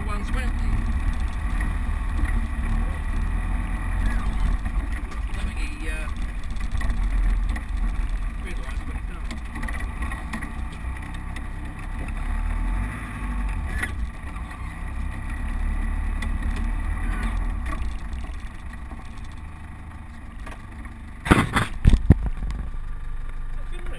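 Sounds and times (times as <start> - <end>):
vehicle engine rumbling in cab: 0.0 - 23.9.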